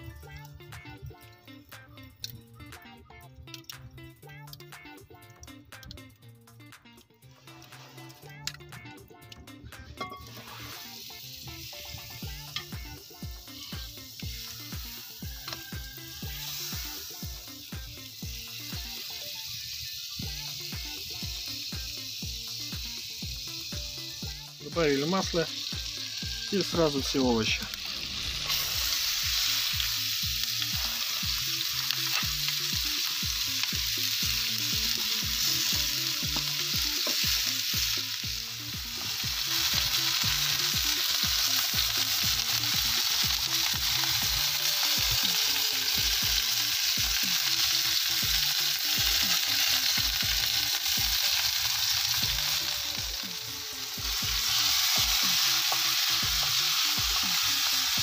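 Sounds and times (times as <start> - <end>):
vegetables sizzling in frying pan: 7.3 - 8.3, 9.8 - 58.0.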